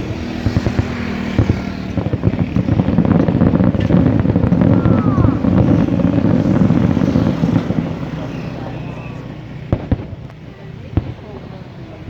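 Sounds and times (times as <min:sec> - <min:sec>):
falling firework whistle: 0:00.0 - 0:09.9
fireworks barrage rumbling and crackling: 0:00.0 - 0:12.0.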